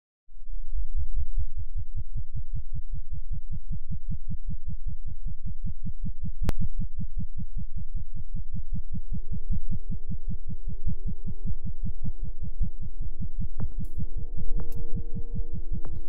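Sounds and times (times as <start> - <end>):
deep throbbing pulse: 0.6 - 16.0.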